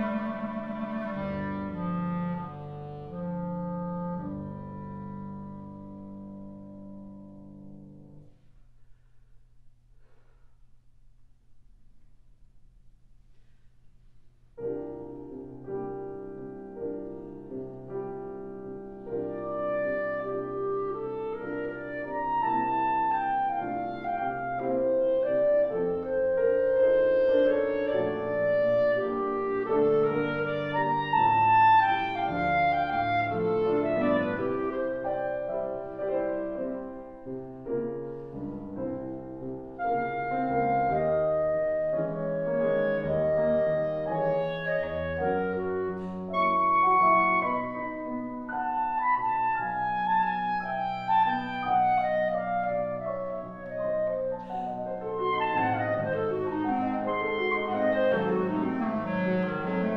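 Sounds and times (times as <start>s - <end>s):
clarinet melody: 0.0s - 8.3s, 14.6s - 59.9s
piano chords: 0.0s - 8.4s, 14.4s - 59.9s.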